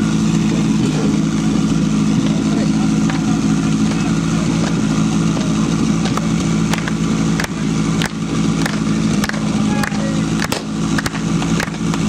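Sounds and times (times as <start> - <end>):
pump engine running steadily: 0.0 - 12.0.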